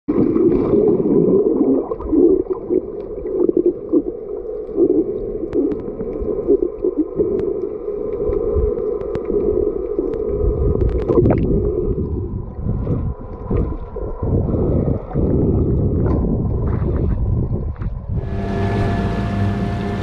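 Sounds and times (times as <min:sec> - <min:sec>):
muffled underwater rush and gurgle: 0:00.1 - 0:20.0.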